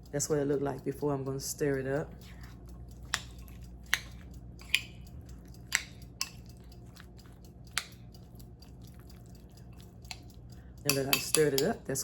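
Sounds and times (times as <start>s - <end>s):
wet squishing of oatmeal: 1.8s - 12.0s
spoon clicking against bowl: 2.1s - 12.0s.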